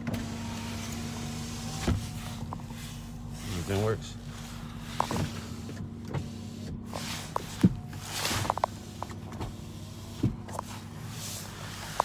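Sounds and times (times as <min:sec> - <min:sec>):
power window motor running: 0:00.0 - 0:12.0.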